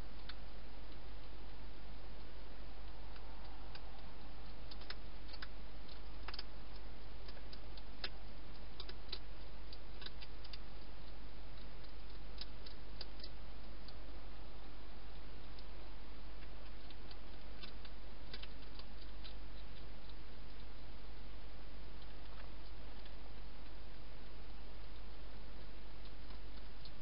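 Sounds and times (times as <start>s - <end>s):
low hum: 0.0s - 27.0s
steady hiss: 0.0s - 27.0s
hedgehog crunching food: 0.2s - 27.0s.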